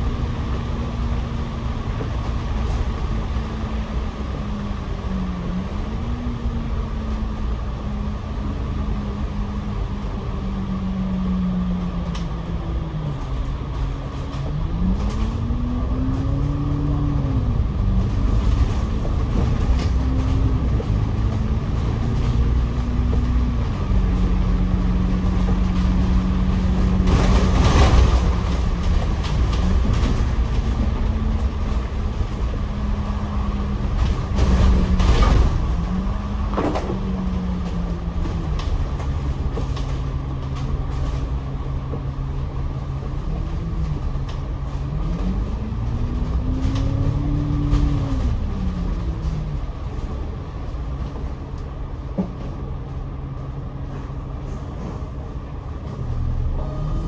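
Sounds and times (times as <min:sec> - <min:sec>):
bus engine hum: 0:00.0 - 0:57.0
road noise: 0:00.0 - 0:57.0.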